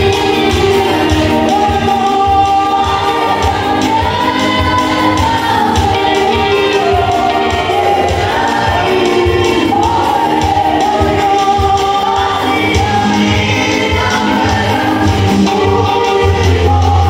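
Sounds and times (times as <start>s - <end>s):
choir singing gospel song: 0.0s - 17.0s.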